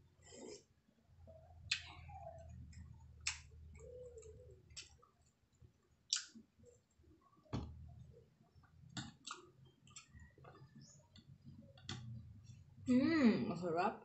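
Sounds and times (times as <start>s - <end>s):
soft chewing and mouth noises: 0.0s - 12.8s.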